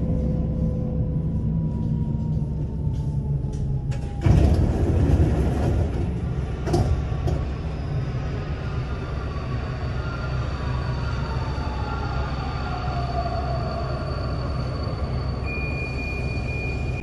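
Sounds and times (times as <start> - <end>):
metro train humming: 0.0 - 17.0.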